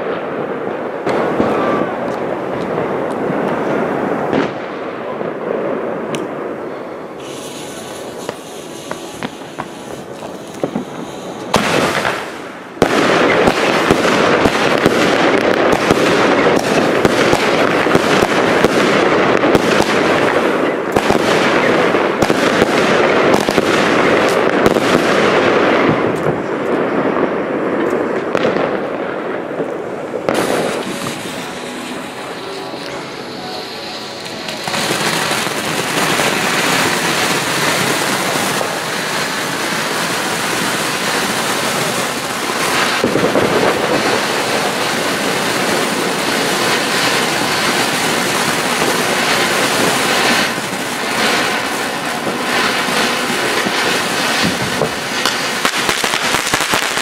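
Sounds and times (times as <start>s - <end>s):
firework burst: 0.0s - 57.0s
rattle of firework shots and bangs: 7.2s - 33.0s, 34.4s - 57.0s.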